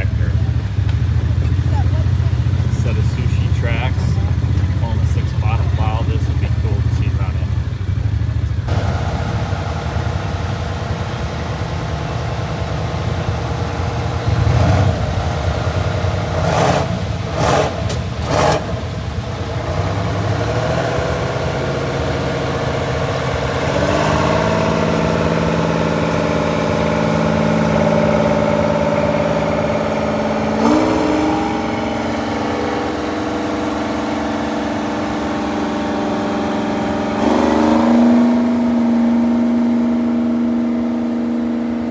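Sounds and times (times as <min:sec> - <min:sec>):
tractor engine droning under load: 0:00.0 - 0:41.9.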